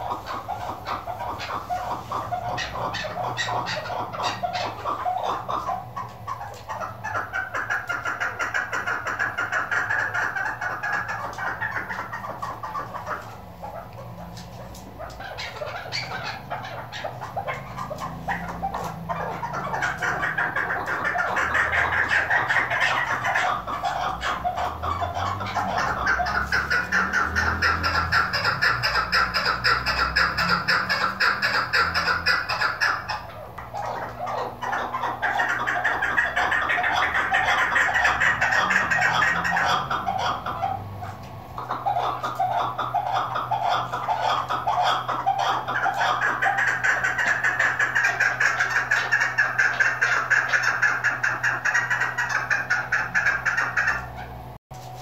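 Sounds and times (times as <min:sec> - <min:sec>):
partridge calling: 0:00.0 - 0:54.4.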